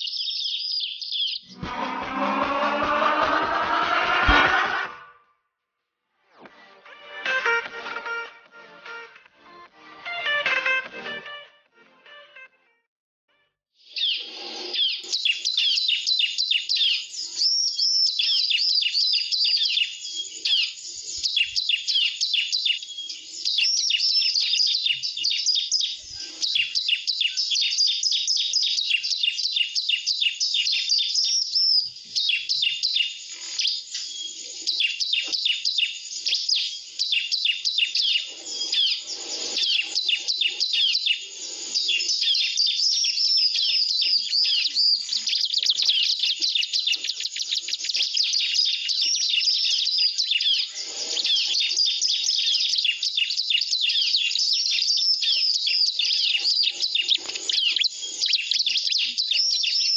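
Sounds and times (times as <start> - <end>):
bird rapid high chirps and trills: 0.0 - 2.9, 13.9 - 59.9.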